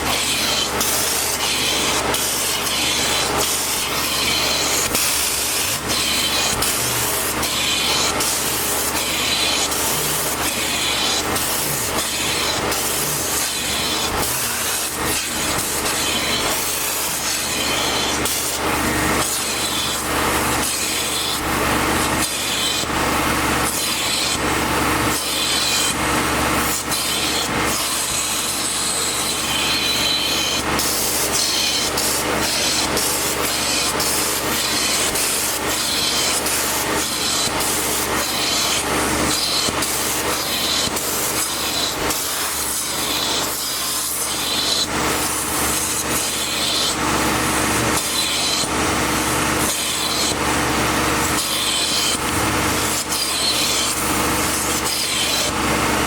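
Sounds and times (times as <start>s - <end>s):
machine hum: 0.0s - 56.0s.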